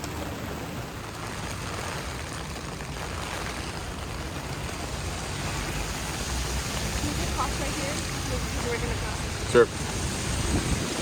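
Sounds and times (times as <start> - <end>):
city street hiss: 0.0 - 11.0
traffic rumble: 0.0 - 11.0.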